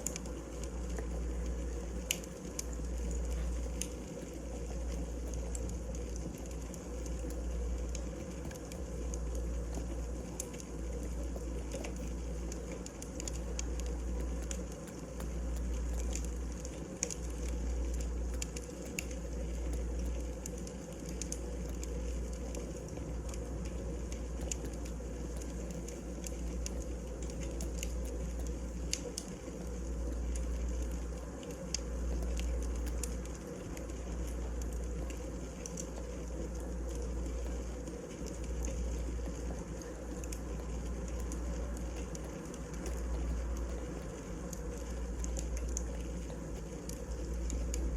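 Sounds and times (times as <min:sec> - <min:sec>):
fire low rumble and hiss: 0:00.0 - 0:47.9
wood fire crackling and popping: 0:00.0 - 0:47.9.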